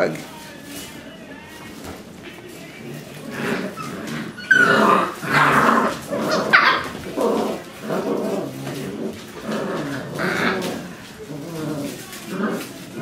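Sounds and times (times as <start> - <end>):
puppies growling and yapping: 1.7 - 13.0.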